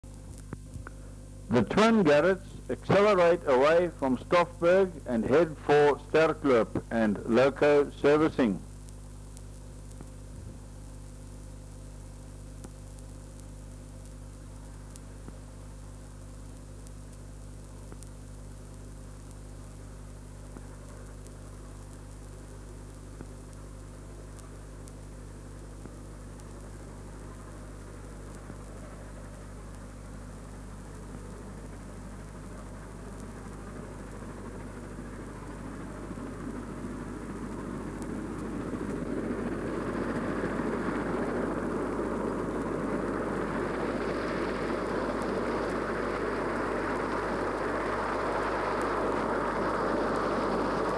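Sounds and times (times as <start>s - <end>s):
mains hum: 0.0s - 50.9s
recording hiss: 0.0s - 50.9s.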